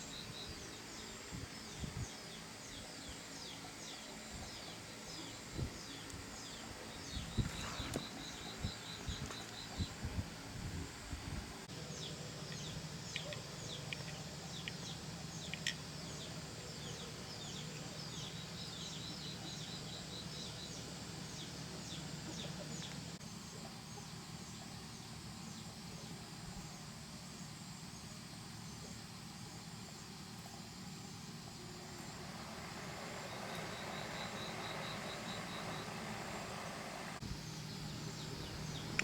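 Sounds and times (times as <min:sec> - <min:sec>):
birds chirping: 0:00.0 - 0:39.0
steady low hum: 0:00.0 - 0:39.0.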